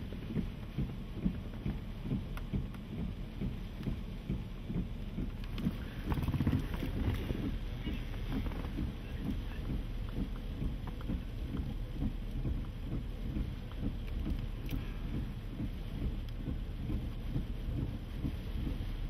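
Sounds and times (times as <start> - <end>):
wind and rain rumble: 0.0 - 19.0.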